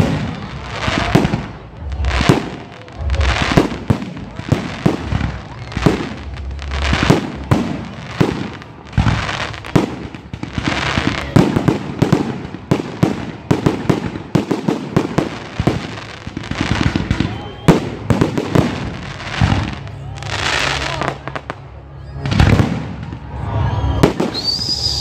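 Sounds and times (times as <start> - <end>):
crackling hiss of firework stars: 0.0 - 25.0.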